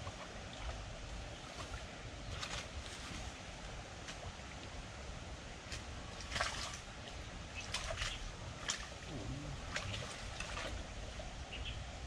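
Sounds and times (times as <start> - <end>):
stream water splashing and trickling: 0.0 - 12.0
wind rumble on microphone: 0.0 - 12.0.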